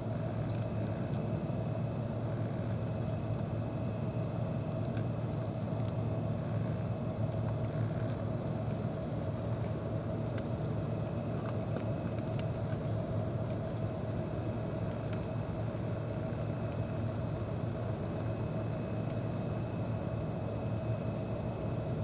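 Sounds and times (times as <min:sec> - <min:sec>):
engine humming steadily: 0:00.0 - 0:22.0.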